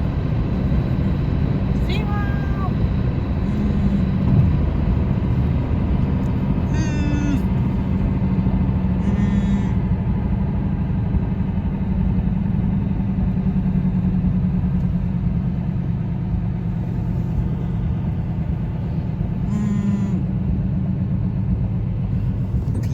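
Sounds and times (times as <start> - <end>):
car engine and tyre rumble: 0.0 - 22.9.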